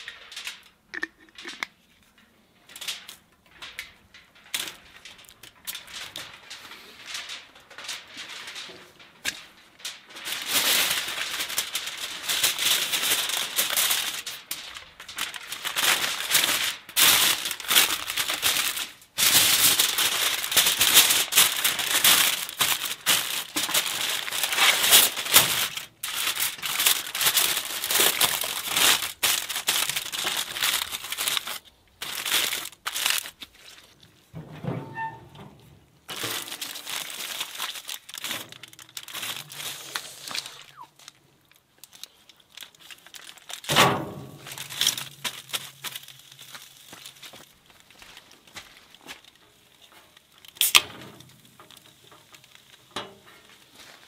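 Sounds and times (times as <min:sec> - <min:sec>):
aluminium foil crinkling: 0:00.0 - 0:54.0.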